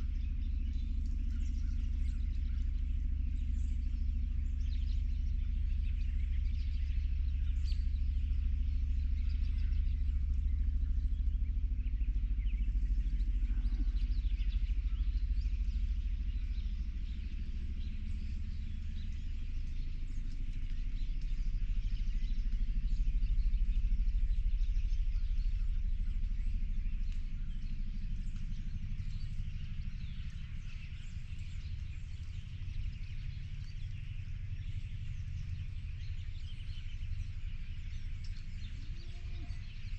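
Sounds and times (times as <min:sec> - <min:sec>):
birds chirping and singing: 0:00.0 - 0:39.9
steady low rumble: 0:00.0 - 0:39.9.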